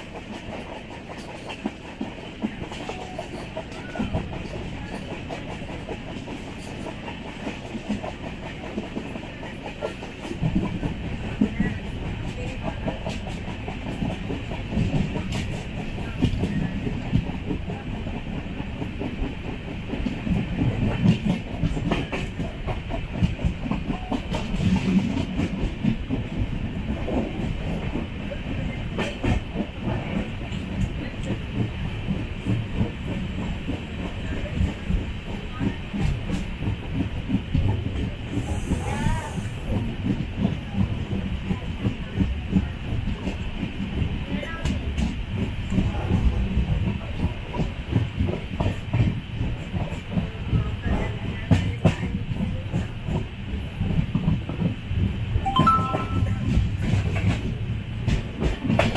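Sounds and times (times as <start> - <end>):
train wheels clicking over rail joints: 0.0 - 55.0
train rumble: 0.0 - 58.9.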